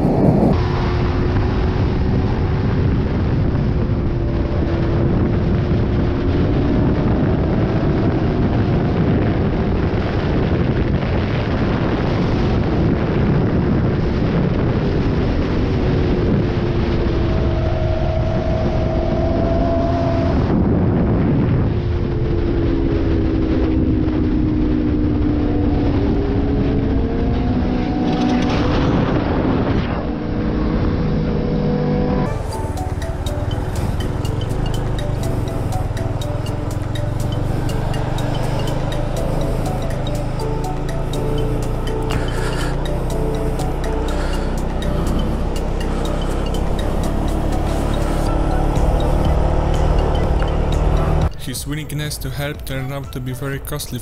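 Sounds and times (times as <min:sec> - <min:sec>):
motorcycle engine at speed: 0:00.0 - 0:51.3
wind and road rush: 0:00.0 - 0:54.0.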